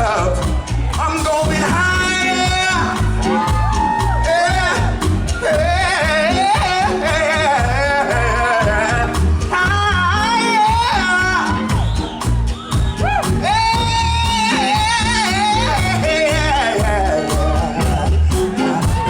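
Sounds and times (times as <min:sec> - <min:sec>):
bass and drum groove: 0:00.0 - 0:19.0
blues-rock band playing: 0:00.0 - 0:19.0
sliding lead guitar line: 0:00.0 - 0:19.0.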